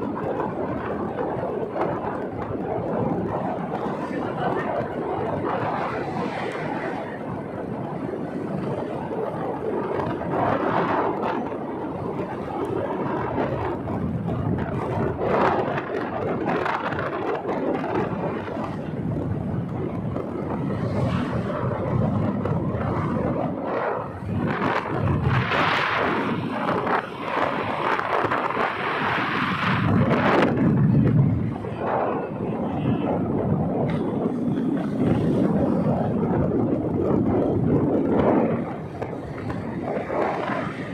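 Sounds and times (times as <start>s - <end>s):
road and vehicle noise: 0.0s - 40.9s
wind on microphone: 0.0s - 40.9s.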